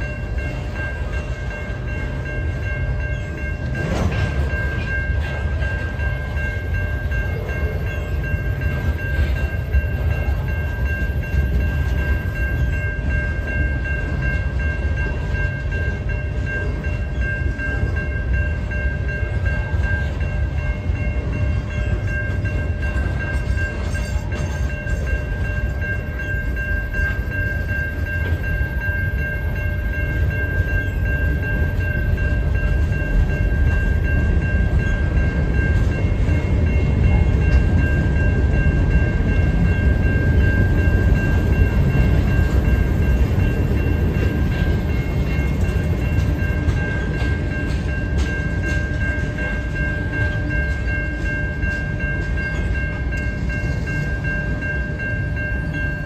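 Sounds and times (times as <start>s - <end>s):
crossing warning bell ringing: 0.0s - 56.0s
train wheels rumbling on rails: 0.0s - 56.0s.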